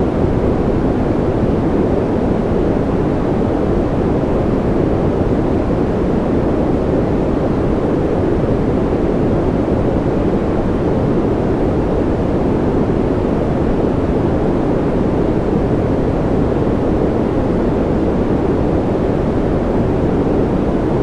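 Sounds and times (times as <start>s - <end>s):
deep muffled white noise: 0.0s - 21.0s.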